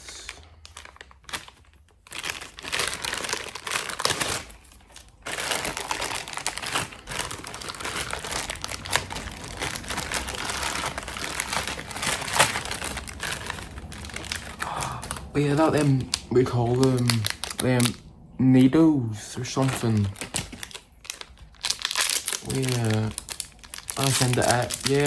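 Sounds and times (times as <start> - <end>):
packaging crinkling and rustling: 0.0 - 18.1, 19.3 - 25.0.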